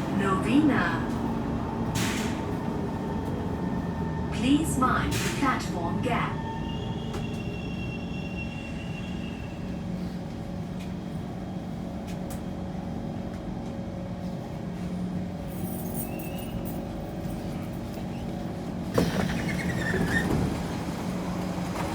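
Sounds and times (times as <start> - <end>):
train electrical hum: 0.0 - 21.9.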